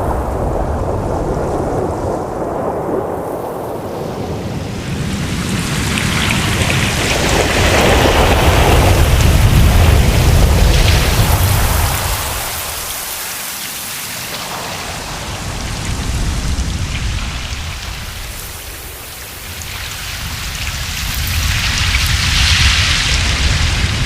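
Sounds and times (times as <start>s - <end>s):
ocean waves washing: 0.0s - 24.0s.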